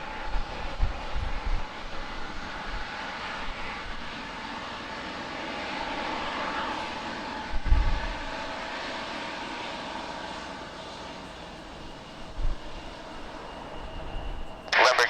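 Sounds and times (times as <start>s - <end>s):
airliner engines whining: 0.0s - 15.0s.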